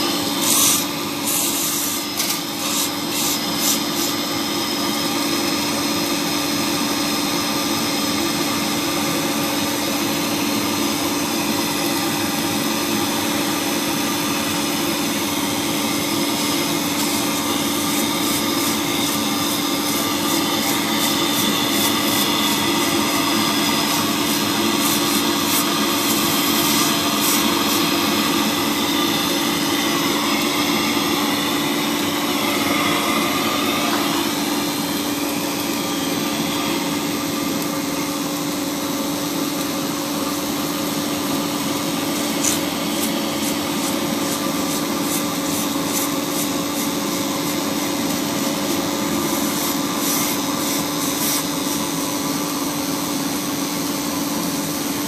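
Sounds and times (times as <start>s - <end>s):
welding hiss: 0.0s - 7.8s, 8.5s - 55.0s
welding machine hum: 0.0s - 55.0s.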